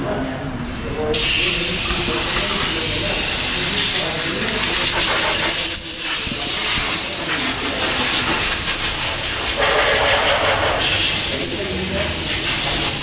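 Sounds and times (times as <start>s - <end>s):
loud steady hiss: 1.1s - 13.0s.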